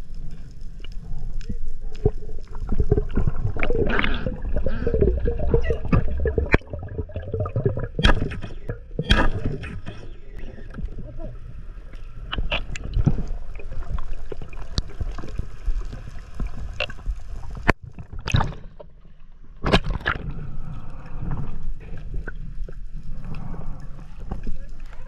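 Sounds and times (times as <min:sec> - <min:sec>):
water sloshing and gurgling: 0:00.0 - 0:25.0.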